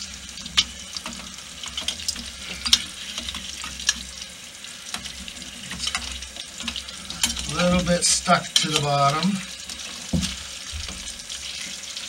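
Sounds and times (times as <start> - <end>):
oil sizzling with crackling pops: 0.0 - 12.0.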